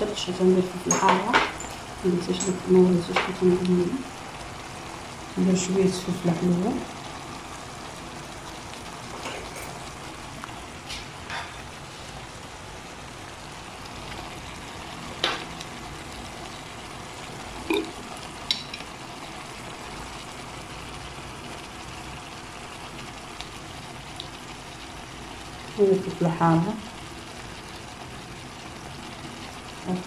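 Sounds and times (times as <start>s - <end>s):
food sizzling in frying pan: 0.0s - 30.0s.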